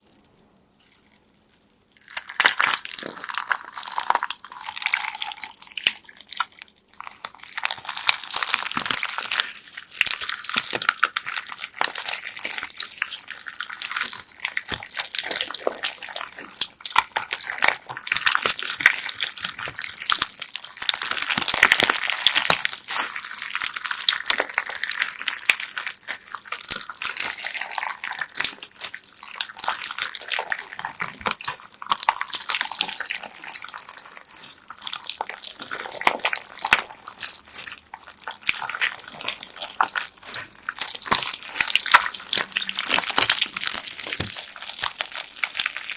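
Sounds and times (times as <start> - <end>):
slime with beads crackling: 0.0 - 45.9.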